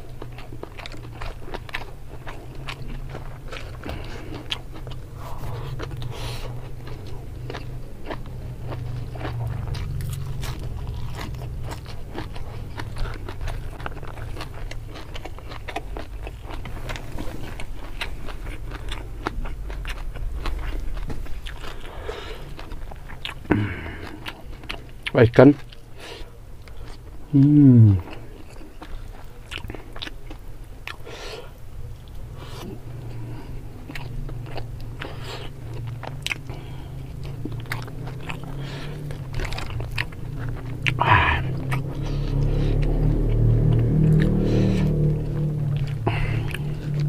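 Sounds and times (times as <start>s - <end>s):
chewing with crunchy clicks: 0.0s - 47.0s.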